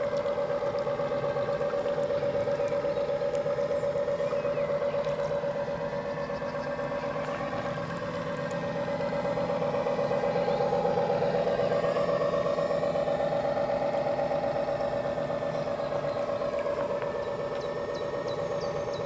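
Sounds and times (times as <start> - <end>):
model boat motor whining: 0.0 - 19.0.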